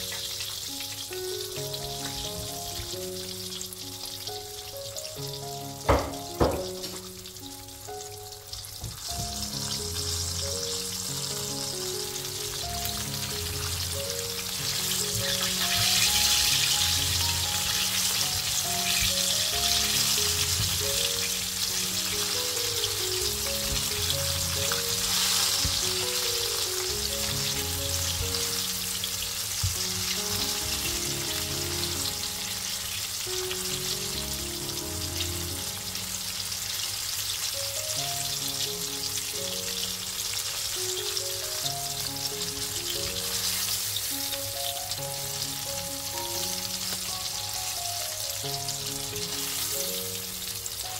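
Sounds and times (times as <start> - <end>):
oil sizzling and bubbling: 0.0 - 50.9.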